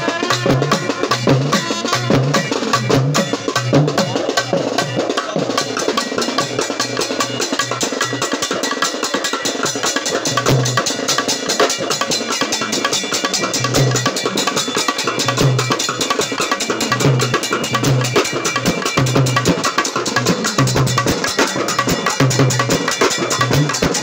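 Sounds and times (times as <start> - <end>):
deep drum beats: 0.0 - 8.5, 9.7 - 24.0
band drums fast rhythm: 0.0 - 24.0.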